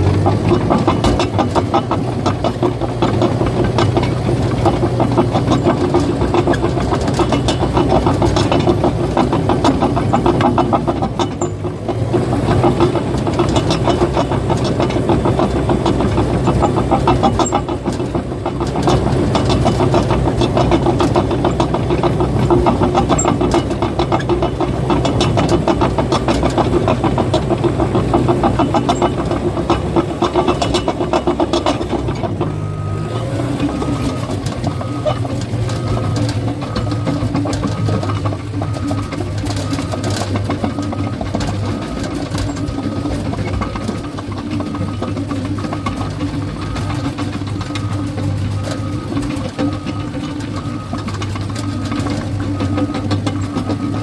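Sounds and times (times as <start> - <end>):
bulldozer diesel engine running: 0.0 - 54.0
steel tracks clattering: 0.0 - 54.0.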